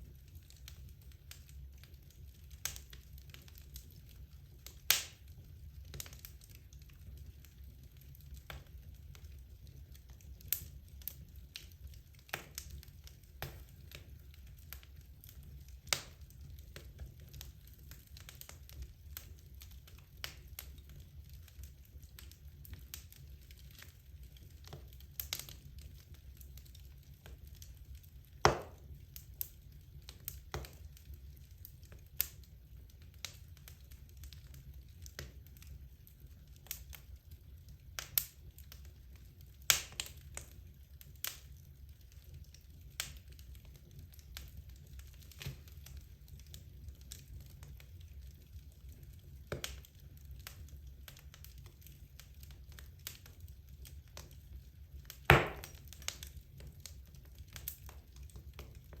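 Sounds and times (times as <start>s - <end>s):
burning logs crackling and popping: 0.0s - 59.0s
low rumble of fire: 0.0s - 59.0s.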